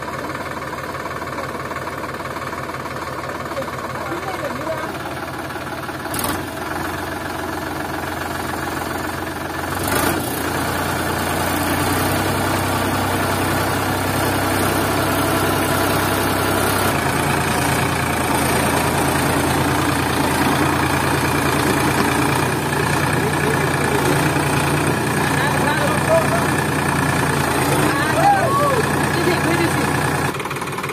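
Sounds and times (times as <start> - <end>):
tractor diesel engine under load: 0.0 - 30.9.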